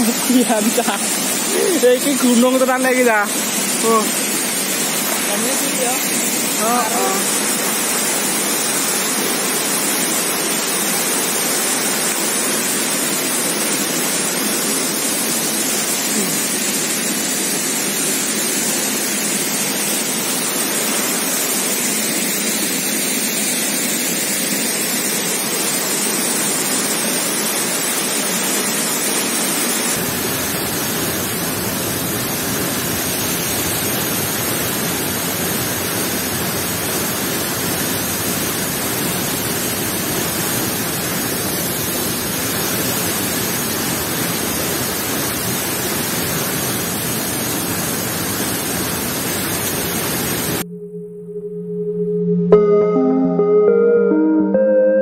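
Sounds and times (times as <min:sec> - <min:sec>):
waterfall rushing: 0:00.0 - 0:50.6.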